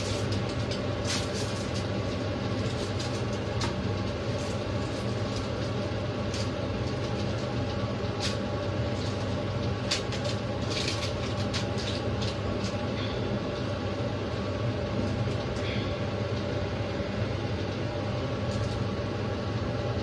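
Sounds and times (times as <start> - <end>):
aluminium foil crinkling: 0.0 - 16.5, 17.6 - 19.1
low mechanical hum: 0.0 - 20.0.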